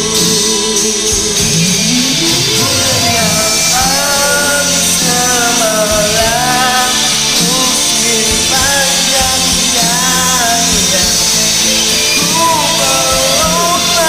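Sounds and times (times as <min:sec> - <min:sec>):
karaoke backing track: 0:00.0 - 0:14.0
man singing: 0:00.0 - 0:14.0.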